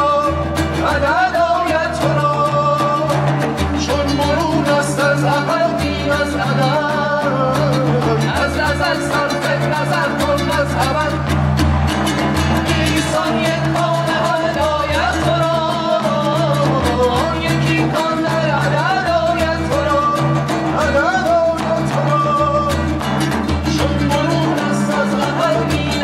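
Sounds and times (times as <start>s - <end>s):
percussive rhythm: 0.0s - 26.0s.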